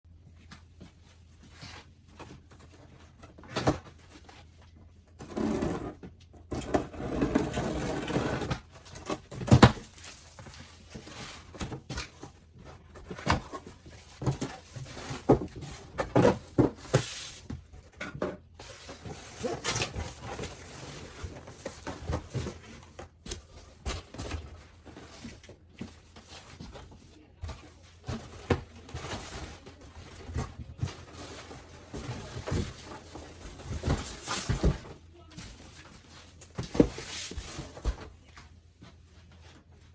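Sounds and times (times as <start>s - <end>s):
cardboard box knocks and scrapes: 5.2s - 38.1s.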